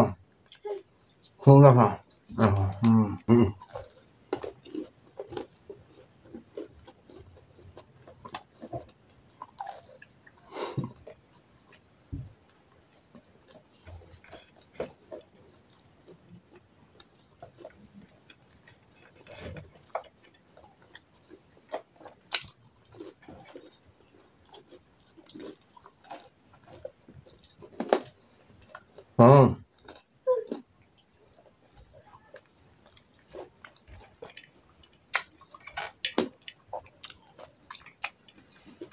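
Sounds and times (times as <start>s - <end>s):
person chewing crunchy pastry: 2.0s - 38.9s.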